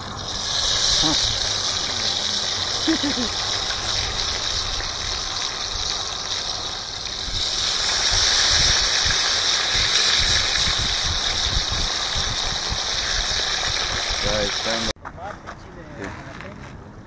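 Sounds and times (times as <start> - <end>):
fish sizzling in hot oil: 0.0 - 14.9.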